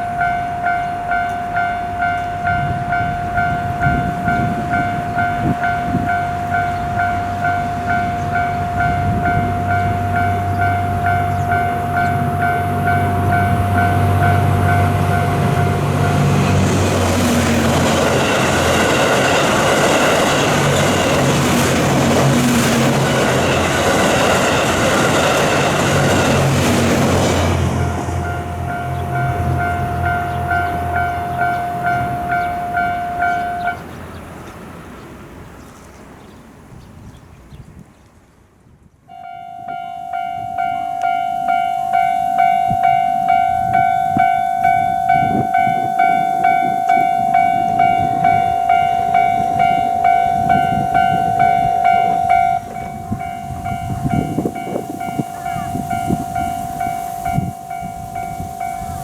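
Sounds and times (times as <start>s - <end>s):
level crossing bell ringing: 0.0s - 33.8s, 39.1s - 59.0s
train rumbling past: 0.0s - 59.0s.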